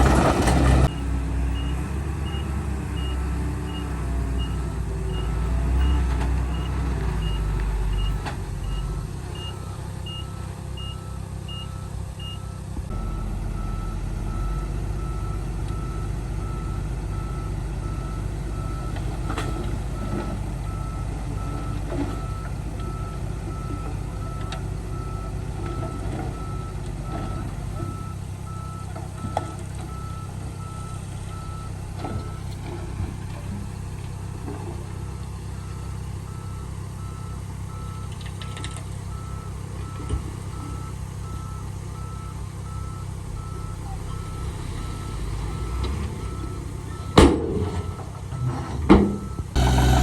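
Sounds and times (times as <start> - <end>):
diesel machinery running: 0.0 - 50.0
low reversing alarm beeping: 0.8 - 32.4, 35.6 - 50.0.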